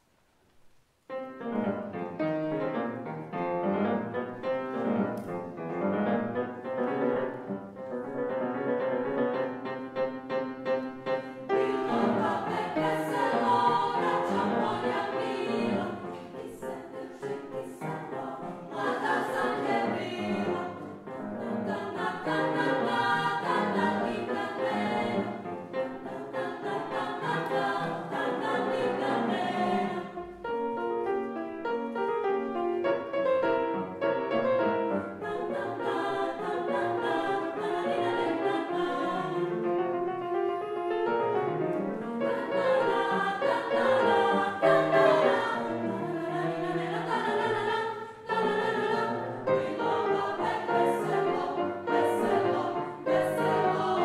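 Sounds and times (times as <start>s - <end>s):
grand piano accompaniment: 0.7s - 54.0s
women's choir singing: 3.7s - 32.6s, 33.5s - 54.0s.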